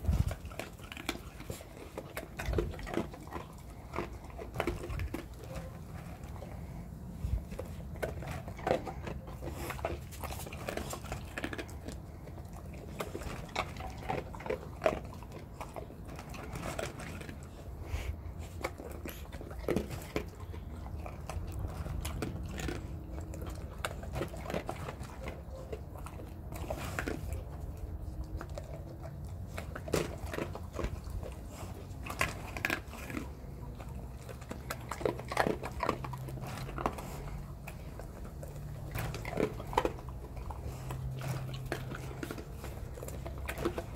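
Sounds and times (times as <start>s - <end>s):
dogs crunching dry kibble: 0.0s - 43.9s.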